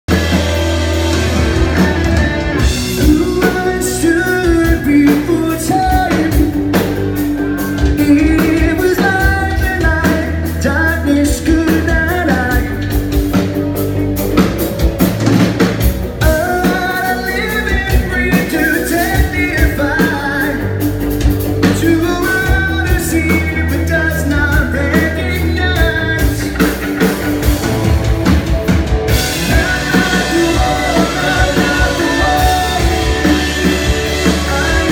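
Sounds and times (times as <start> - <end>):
drums: 0.0 - 34.9
electric guitars: 0.1 - 34.9
lead singer singing: 1.2 - 13.6, 16.0 - 34.9.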